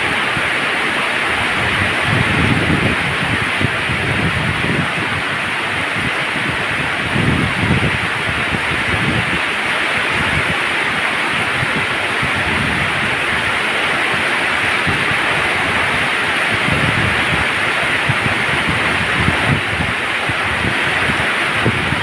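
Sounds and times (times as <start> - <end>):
heavy rain on pavement: 0.0 - 22.0.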